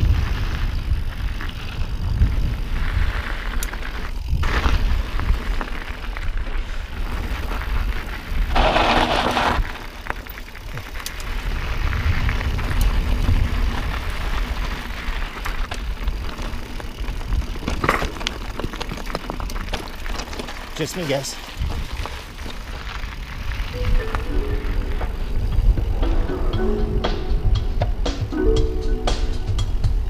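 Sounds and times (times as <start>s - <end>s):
tyres crunching on gravel: 0.0s - 26.8s
bike rattling over stones: 0.0s - 28.3s
wind buffeting microphone: 0.0s - 30.0s.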